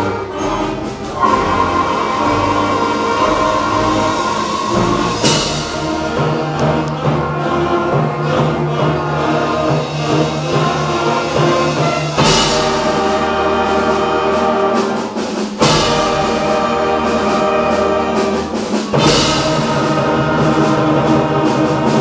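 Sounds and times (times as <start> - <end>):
concert band playing chords: 0.0 - 22.0
drums: 0.0 - 22.0.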